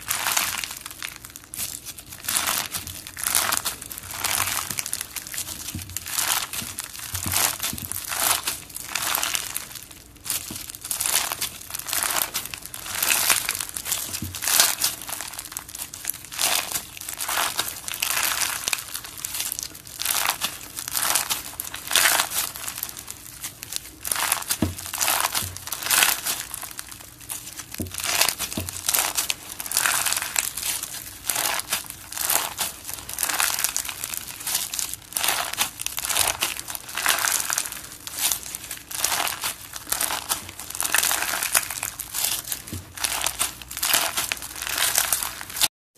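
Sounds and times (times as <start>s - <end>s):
crunchy slime squeezed: 0.0s - 45.7s.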